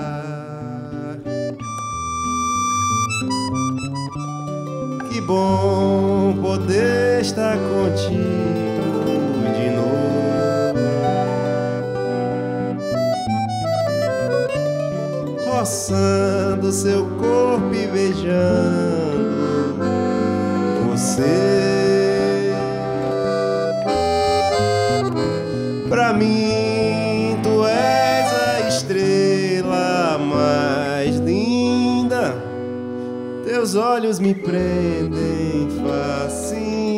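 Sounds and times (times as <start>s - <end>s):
mandolin: 0.0s - 33.6s
accordion melody: 0.0s - 36.9s
acoustic guitar: 0.0s - 36.9s.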